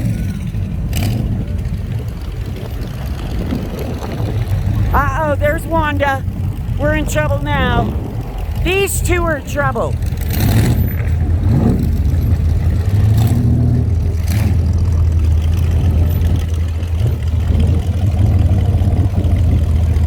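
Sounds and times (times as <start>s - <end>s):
car engine rumbling at low speed: 0.0s - 20.0s.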